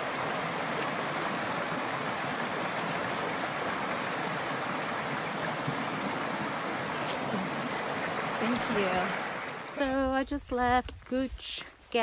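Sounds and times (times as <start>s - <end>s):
creek rushing over rocks: 0.0s - 9.8s.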